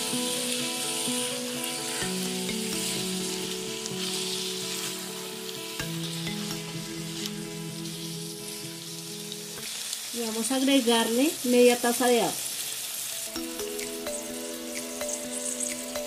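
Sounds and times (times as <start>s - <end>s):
soft background music: 0.0s - 11.4s, 13.0s - 16.0s
meat sizzling in a pan: 0.0s - 16.0s.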